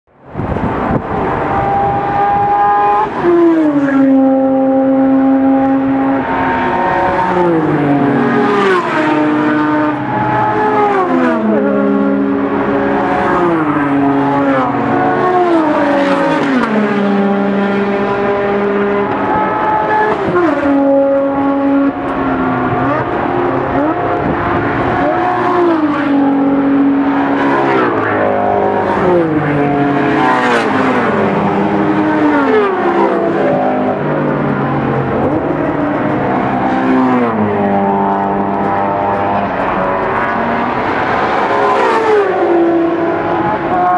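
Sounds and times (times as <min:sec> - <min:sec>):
racing cars passing at full throttle: 0:00.1 - 0:43.9.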